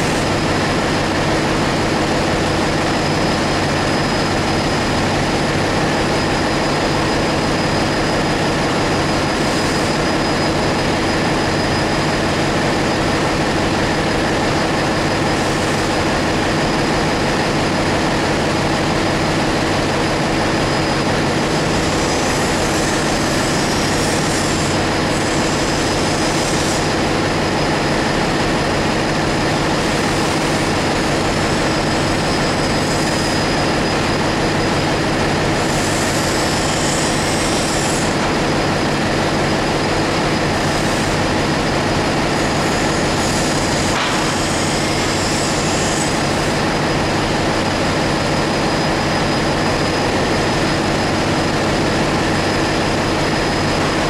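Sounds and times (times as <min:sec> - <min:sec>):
engine room machinery roar: 0:00.0 - 0:54.0.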